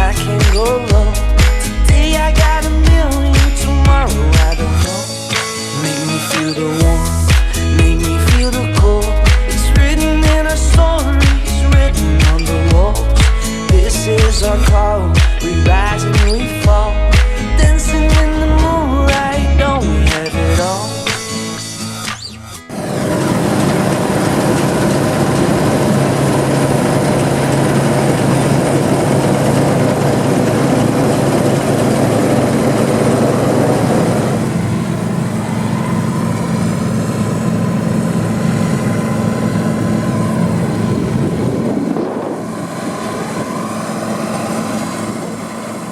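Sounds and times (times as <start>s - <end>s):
diesel engine running under load: 0.0s - 45.9s.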